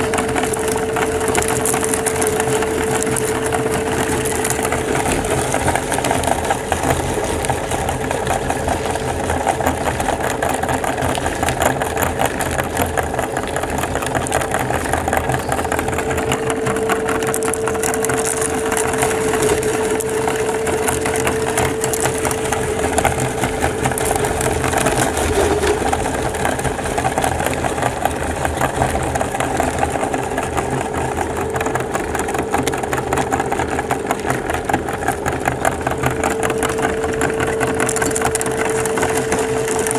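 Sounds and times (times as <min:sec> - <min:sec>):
electric grinder motor hum: 0:00.0 - 0:39.9
hard candies crunching: 0:00.0 - 0:39.9.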